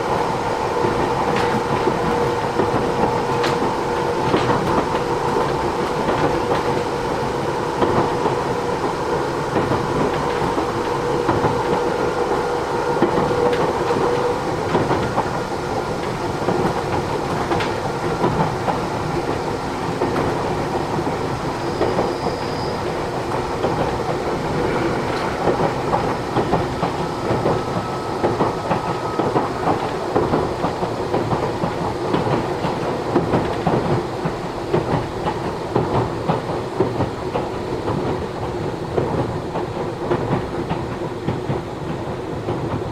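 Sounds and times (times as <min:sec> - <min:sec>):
train rolling noise: 0:00.0 - 0:42.9.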